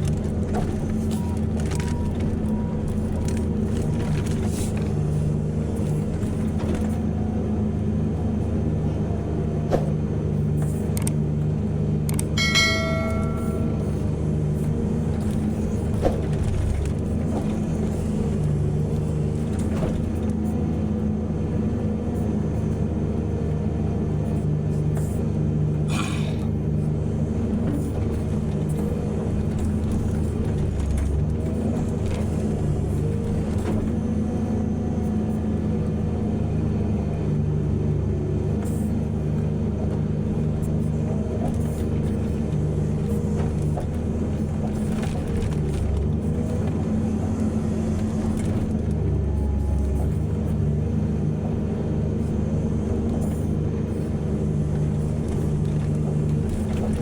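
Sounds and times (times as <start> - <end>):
large diesel engines running: 0.0 - 57.0.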